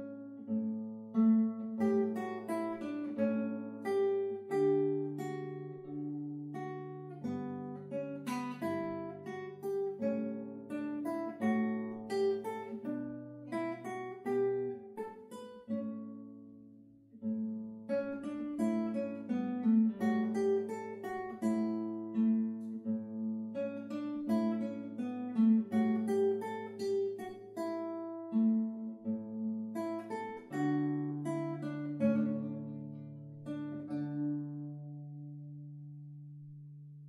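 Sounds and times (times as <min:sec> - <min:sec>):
classical guitar fingerstyle: 0:00.0 - 0:37.0.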